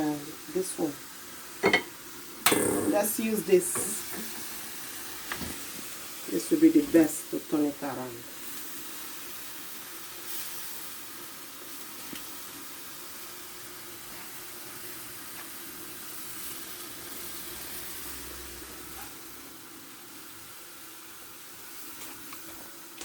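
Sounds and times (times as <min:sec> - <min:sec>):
noodles sizzling in a frying pan: 0:00.0 - 0:23.0.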